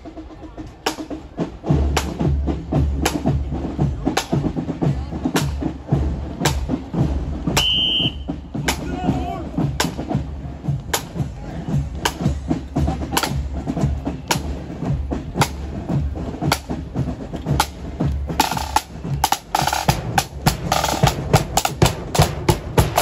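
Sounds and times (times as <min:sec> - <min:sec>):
marching side drums with rolls: 0:00.0 - 0:23.0.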